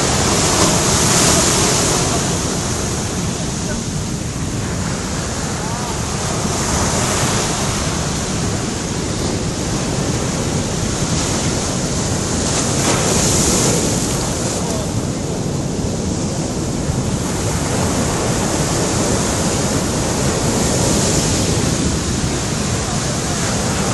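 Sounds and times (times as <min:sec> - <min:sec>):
waves breaking on a beach: 0:00.0 - 0:23.9.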